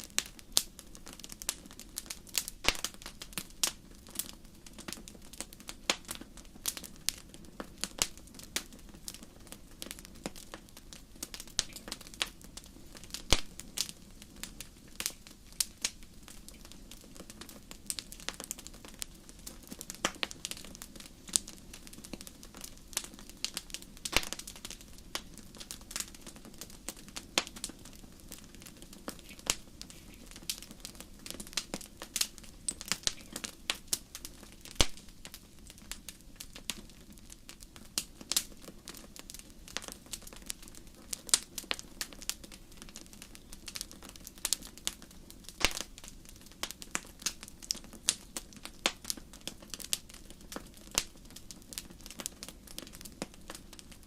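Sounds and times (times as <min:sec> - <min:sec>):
low hiss of burning: 0:00.0 - 0:54.0
wood fire crackling and popping: 0:00.0 - 0:54.0.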